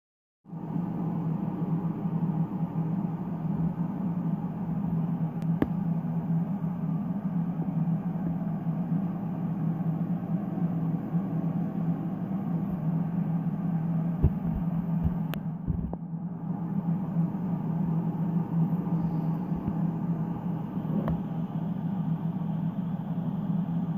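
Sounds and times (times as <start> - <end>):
machine humming: 0.5 - 23.9.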